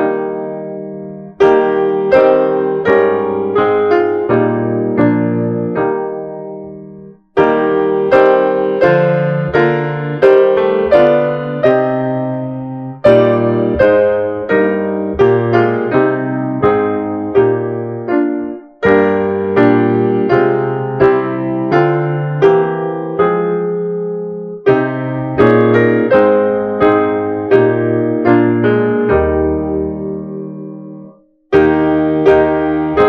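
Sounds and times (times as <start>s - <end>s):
slow solo piano chords: 0.0s - 33.0s.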